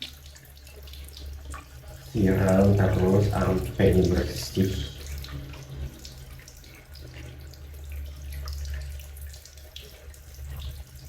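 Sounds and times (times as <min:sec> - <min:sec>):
water running from a hose: 0:00.0 - 0:11.0.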